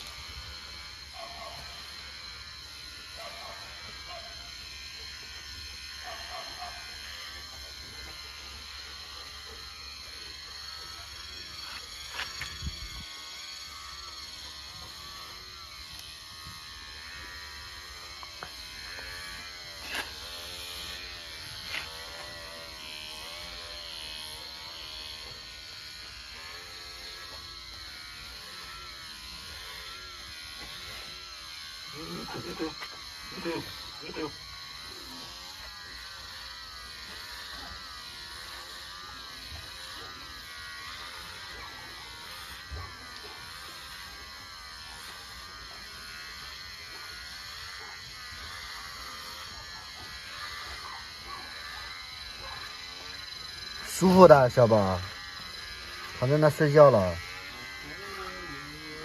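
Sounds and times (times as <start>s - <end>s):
electric hair clippers buzzing: 0.0s - 59.0s.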